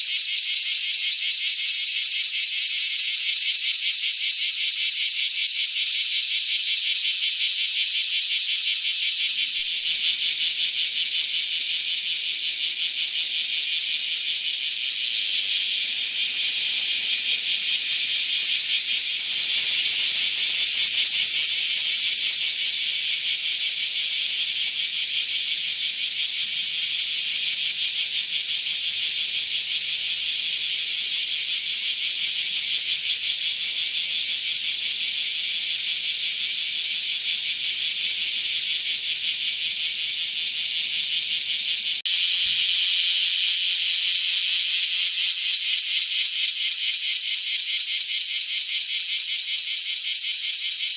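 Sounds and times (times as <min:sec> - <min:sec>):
cicada buzzing: 0:00.0 - 0:50.9.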